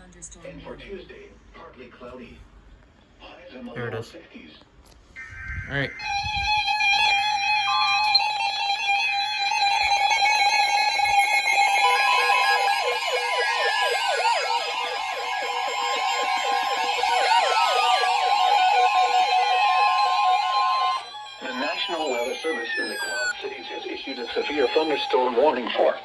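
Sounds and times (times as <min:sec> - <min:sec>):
steady high alarm tones: 0:05.1 - 0:26.0
warbling siren-like alarm: 0:05.1 - 0:26.0.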